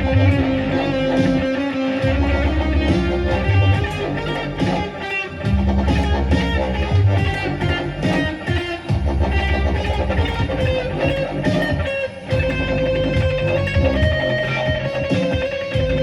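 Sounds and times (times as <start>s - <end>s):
bass line: 0.0s - 16.0s
electric guitar: 0.0s - 16.0s.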